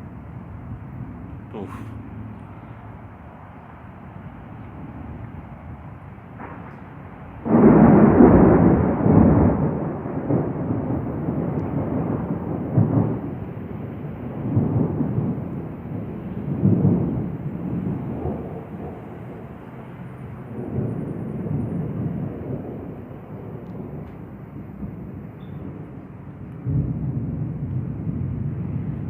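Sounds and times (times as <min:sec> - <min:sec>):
rumbling thunder: 0:00.0 - 0:29.0.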